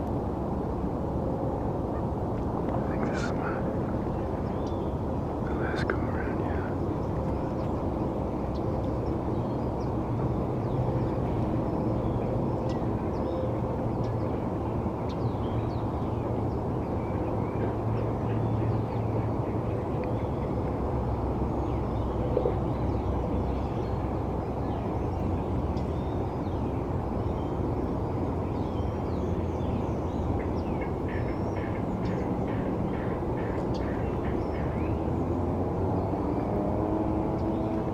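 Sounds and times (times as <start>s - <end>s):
distant city traffic rumble: 0.0s - 37.9s.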